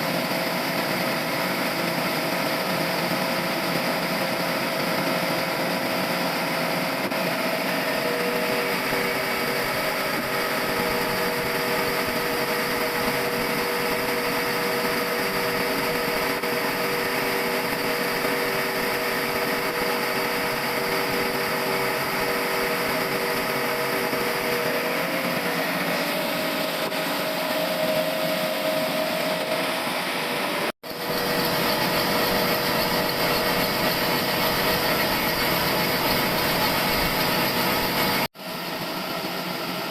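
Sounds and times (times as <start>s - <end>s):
sawmill saw cutting log: 0.3s - 38.3s.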